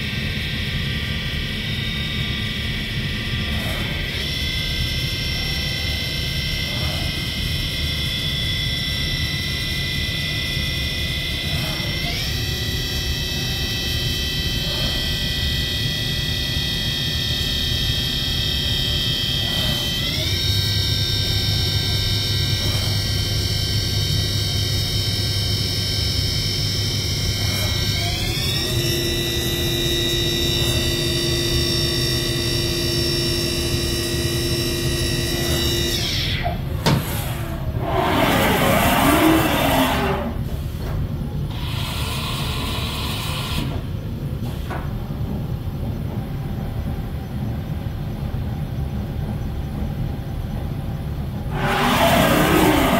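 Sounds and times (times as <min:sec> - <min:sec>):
machine spindle whine: 0:00.0 - 0:52.9.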